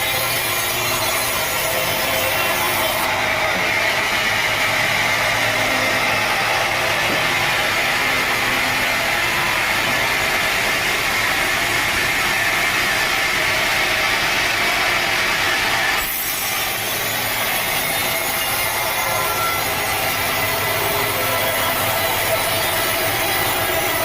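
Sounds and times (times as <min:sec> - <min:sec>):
saw cutting through log: 0:00.0 - 0:24.0.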